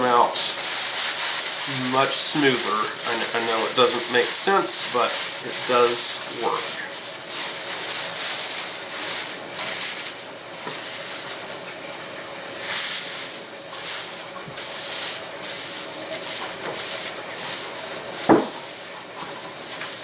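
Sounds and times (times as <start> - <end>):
plastic film crackling: 0.0 - 20.0.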